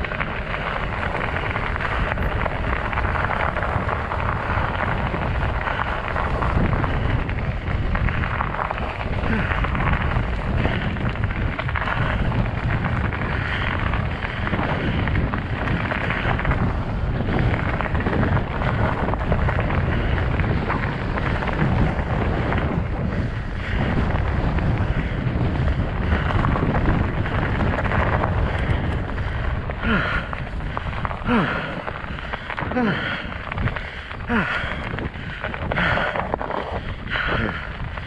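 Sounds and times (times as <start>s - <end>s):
bike tyres rolling on snow and ice: 0.0s - 38.0s
wind buffeting microphone: 0.0s - 38.0s.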